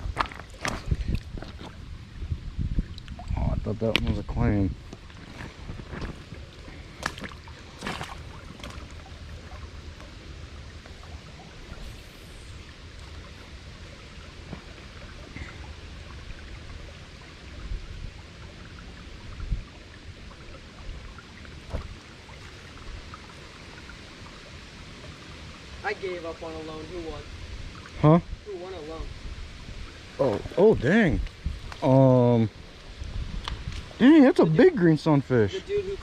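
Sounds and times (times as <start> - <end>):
creek water flowing: 0.0 - 36.0.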